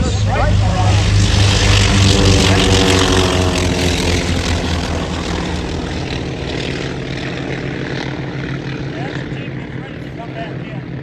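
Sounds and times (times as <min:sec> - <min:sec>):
propeller aircraft passing by: 0:00.0 - 0:11.0.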